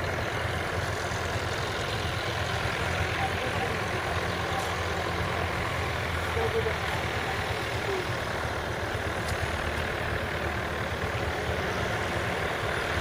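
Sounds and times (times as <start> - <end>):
light aircraft engine humming: 0.0 - 13.0.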